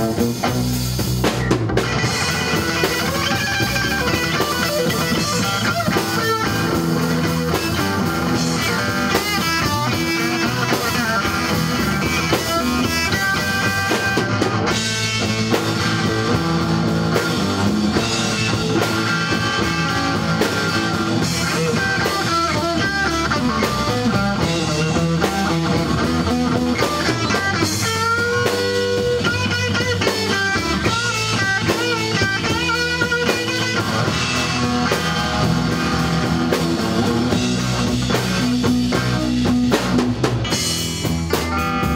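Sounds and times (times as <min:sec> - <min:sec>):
bending electric guitar notes: 0:00.0 - 0:41.9
rock band playing: 0:00.0 - 0:41.9.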